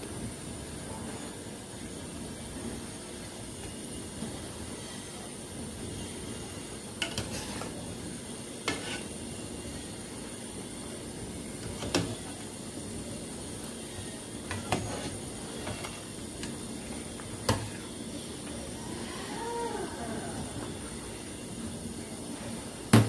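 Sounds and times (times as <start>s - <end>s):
soup simmering and bubbling: 0.3s - 22.9s.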